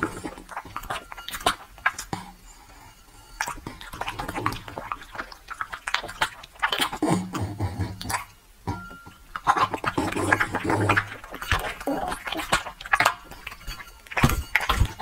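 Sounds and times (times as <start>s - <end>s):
dog chewing and lip smacking: 0.0s - 15.0s.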